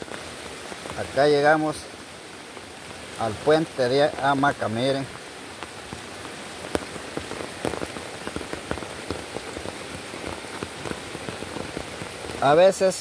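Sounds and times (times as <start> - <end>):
raindrops tapping: 0.0 - 13.0
steady rain falling: 0.0 - 13.0.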